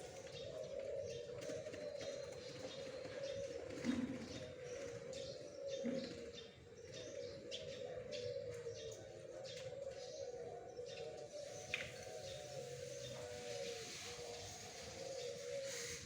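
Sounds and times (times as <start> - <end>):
doves cooing: 0.0 - 16.0.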